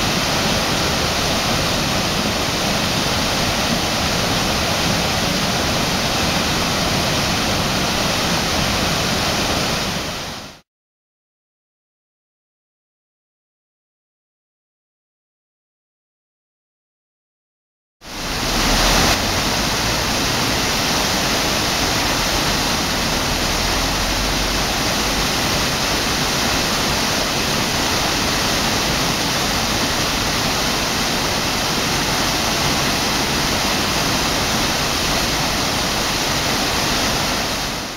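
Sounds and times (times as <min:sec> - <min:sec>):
large waterfall rushing: 0:00.0 - 0:10.6, 0:18.0 - 0:37.9.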